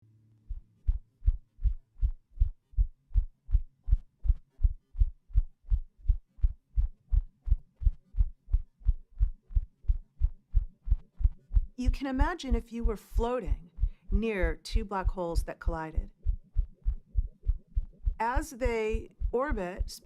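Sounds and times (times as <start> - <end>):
low drum-like thumps: 0.5 - 20.0.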